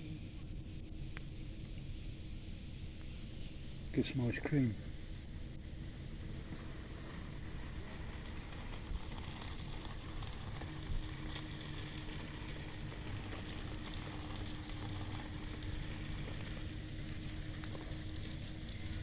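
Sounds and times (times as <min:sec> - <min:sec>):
faint steady hum: 0:00.0 - 0:19.0
low background rumble: 0:00.0 - 0:19.0.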